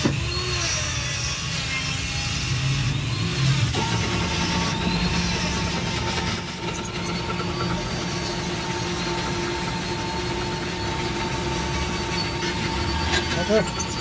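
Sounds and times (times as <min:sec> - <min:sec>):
pillar drill drilling into steel: 0:00.0 - 0:14.0.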